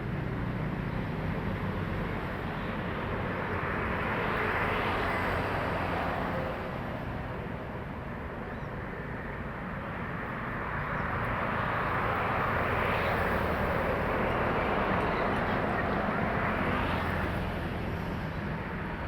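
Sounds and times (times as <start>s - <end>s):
trucks passing on highway: 0.0s - 19.0s.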